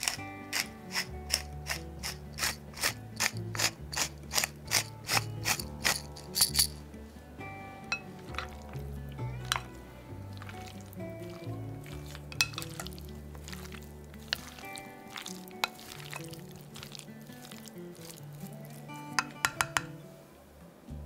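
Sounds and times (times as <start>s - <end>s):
pepper mill grinding: 0.0s - 6.8s, 9.4s - 19.9s.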